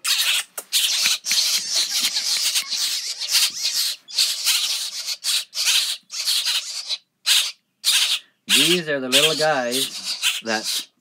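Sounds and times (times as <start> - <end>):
chicks begging calls: 0.0 - 11.0.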